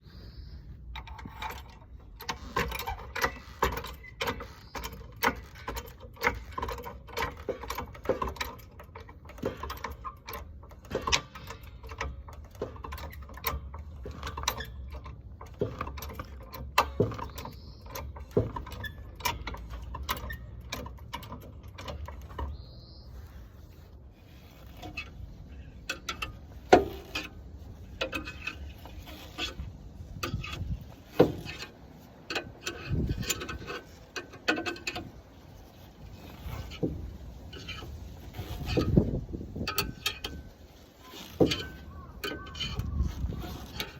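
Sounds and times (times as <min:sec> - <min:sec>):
car jack clicking and clattering: 0:00.9 - 0:22.7, 0:24.7 - 0:43.9.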